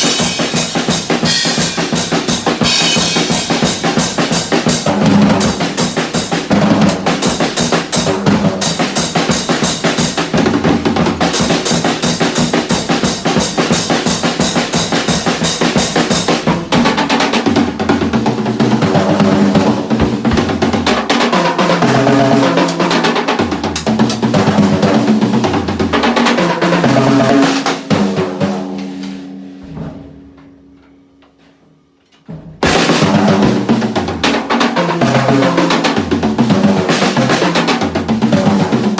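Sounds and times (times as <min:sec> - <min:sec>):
drum kit played hard: 0:00.0 - 0:30.6, 0:32.3 - 0:38.9.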